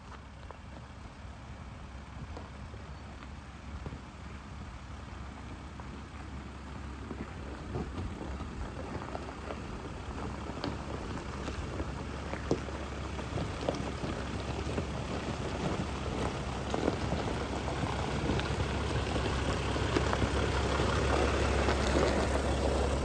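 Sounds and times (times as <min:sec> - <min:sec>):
tyres crackling on dirt: 0:00.0 - 0:23.0
van engine and road hum: 0:00.0 - 0:23.0
van body rattles: 0:04.0 - 0:23.0.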